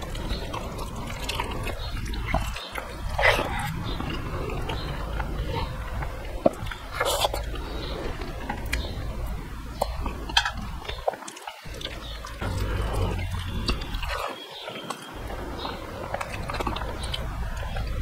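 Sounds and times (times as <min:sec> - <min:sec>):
chewing with wet smacks: 0:00.0 - 0:18.0.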